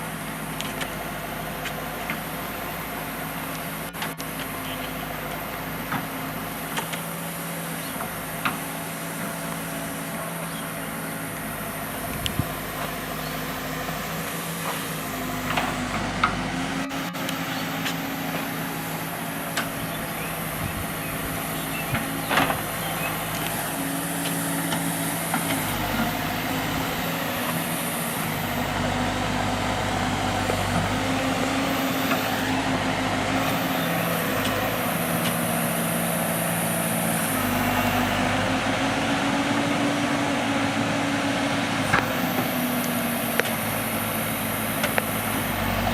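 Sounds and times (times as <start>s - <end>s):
heavy diesel machine engine running: 0.0s - 45.9s.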